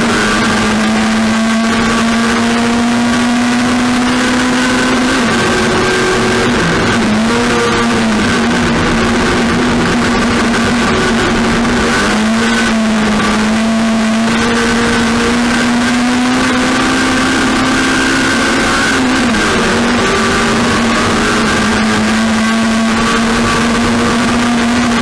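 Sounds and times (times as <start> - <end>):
racing engine revving high: 0.0 - 25.0.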